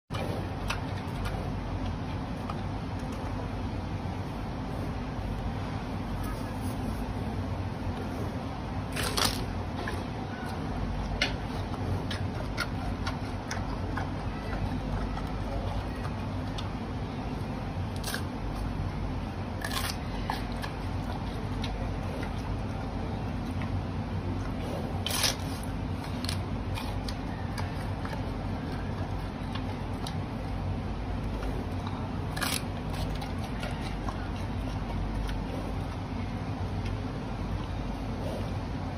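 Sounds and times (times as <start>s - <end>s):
panda crunching carrots: 0.1s - 37.1s
low background rumble: 0.1s - 38.9s
steady low hum: 0.1s - 38.9s.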